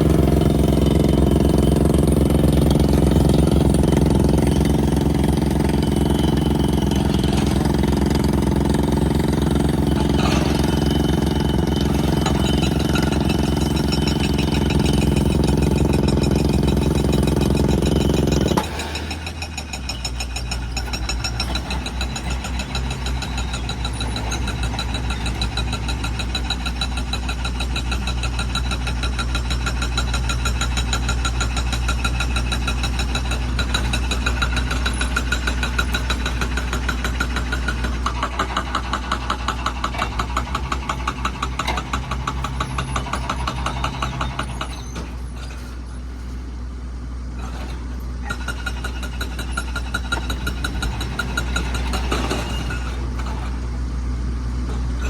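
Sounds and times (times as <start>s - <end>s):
pneumatic rock drill hammering: 0.0s - 46.6s, 47.3s - 53.8s
diesel engine running: 0.0s - 55.0s.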